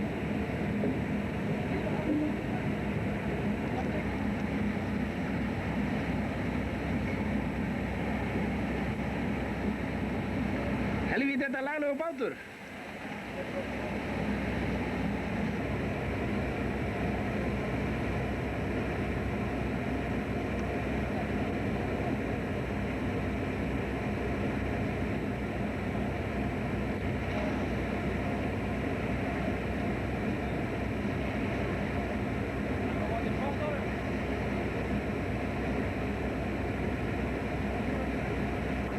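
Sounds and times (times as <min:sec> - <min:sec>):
boat engine rumbling: 0:00.0 - 0:38.9.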